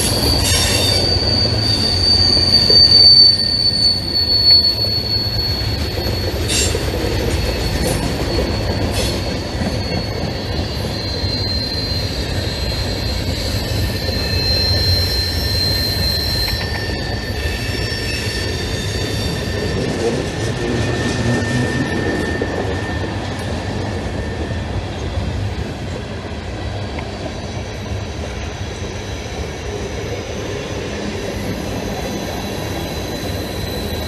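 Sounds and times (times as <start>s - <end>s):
high-pitched wheel squeal: 0.0s - 25.6s, 27.4s - 34.0s
rumble of wheels on rail: 0.0s - 34.0s.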